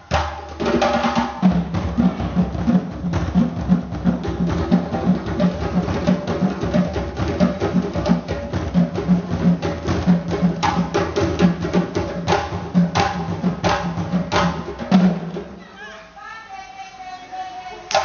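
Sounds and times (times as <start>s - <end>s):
hand drums playing deep strokes: 0.0s - 15.5s
sharp drum slaps: 0.0s - 15.5s.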